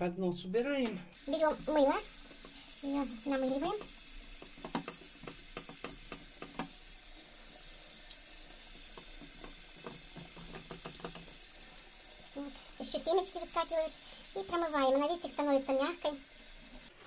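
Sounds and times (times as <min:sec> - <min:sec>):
tap water running into sink: 0:01.2 - 0:16.9.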